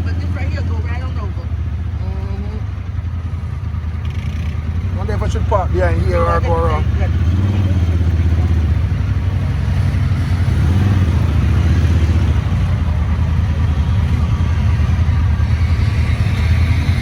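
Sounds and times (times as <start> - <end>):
buggy engine running at low speed: 0.0 - 17.0.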